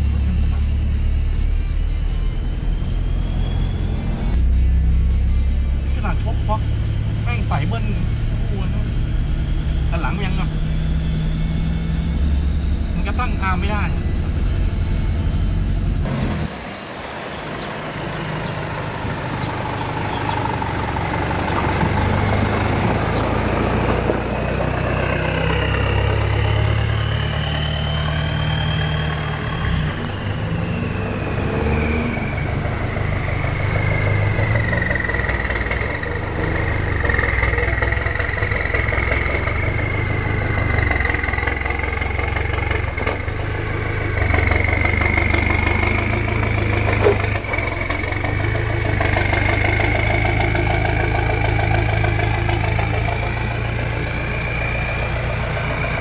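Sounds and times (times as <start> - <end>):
off-road vehicle engine whining: 0.0 - 56.0.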